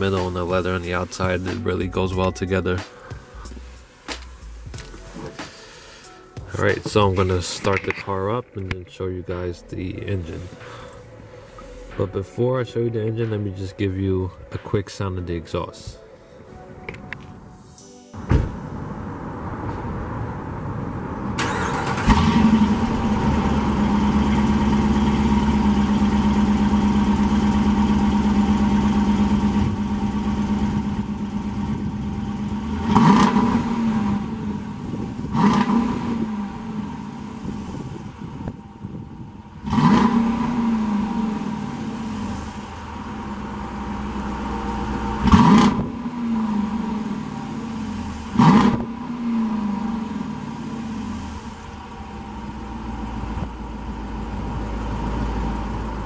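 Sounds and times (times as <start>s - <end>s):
car engine idling and revving: 0.0s - 8.0s, 18.2s - 56.0s.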